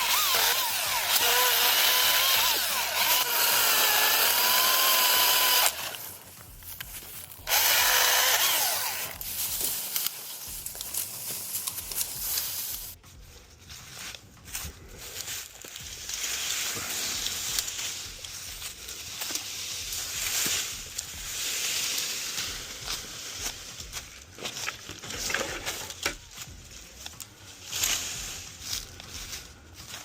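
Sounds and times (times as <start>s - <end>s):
leafy brush rustling: 0.1s - 30.0s.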